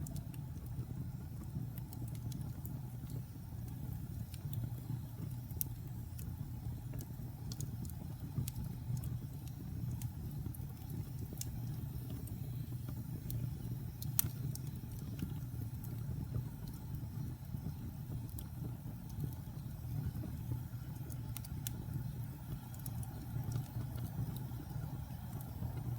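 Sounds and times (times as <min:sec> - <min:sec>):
fire crackles and pops: 0:00.0 - 0:25.9
wood fire burning: 0:00.0 - 0:25.9.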